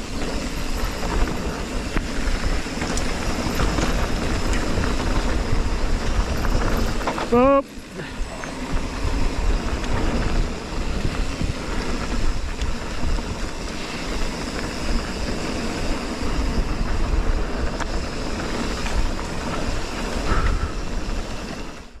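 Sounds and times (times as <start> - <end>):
bike tyre and rattle noise: 0.0 - 22.0
wind buffeting microphone: 0.0 - 22.0.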